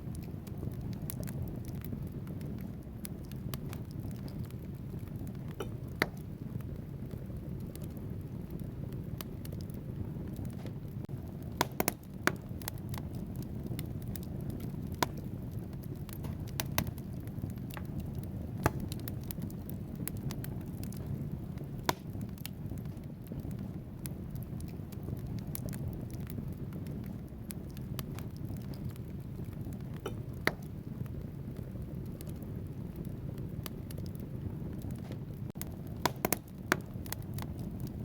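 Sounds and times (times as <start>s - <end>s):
fire flames rushing: 0.0s - 38.0s
logs crackling and popping: 0.0s - 38.0s.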